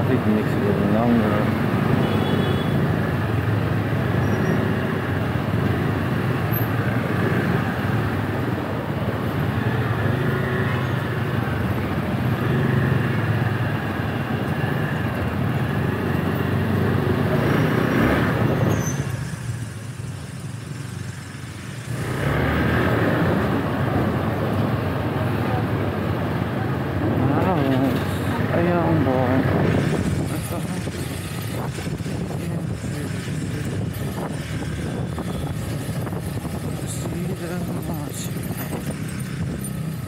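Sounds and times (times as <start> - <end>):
scooter and motorcycle engines: 0.0 - 40.0.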